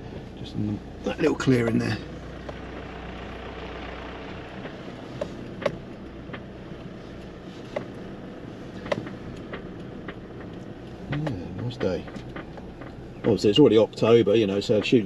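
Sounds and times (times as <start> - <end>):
engine and tyre rumble: 0.0 - 15.0
car knocks and rattles: 1.2 - 15.0.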